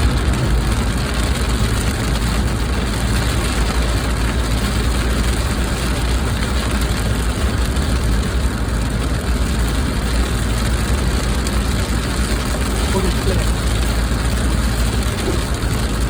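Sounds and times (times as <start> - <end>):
car rumble inside cabin: 0.0 - 16.0.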